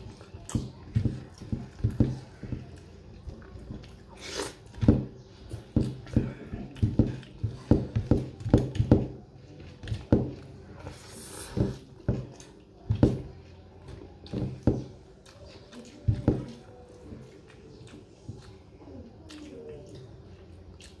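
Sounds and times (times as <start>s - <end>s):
wet chewing and lip-smacking: 0.0s - 4.8s, 5.5s - 11.4s, 12.2s - 21.0s.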